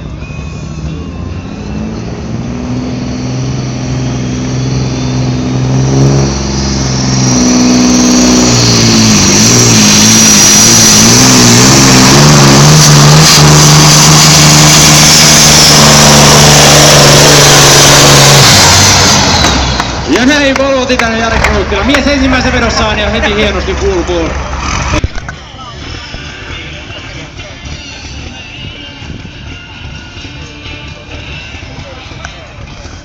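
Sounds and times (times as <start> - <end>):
tractor engine at full power: 0.0 - 33.0.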